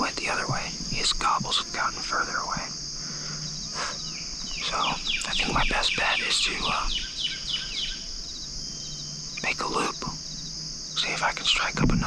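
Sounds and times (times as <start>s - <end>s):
insect trill: 0.0s - 12.0s
songbird chirping: 0.0s - 12.0s.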